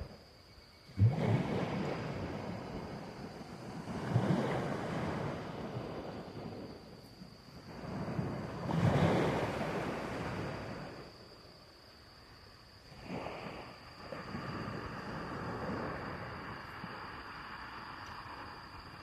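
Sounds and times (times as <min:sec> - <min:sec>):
wind buffeting microphone: 0:00.9 - 0:11.0, 0:12.9 - 0:19.0
sea waves washing in: 0:00.9 - 0:11.5, 0:12.8 - 0:19.0.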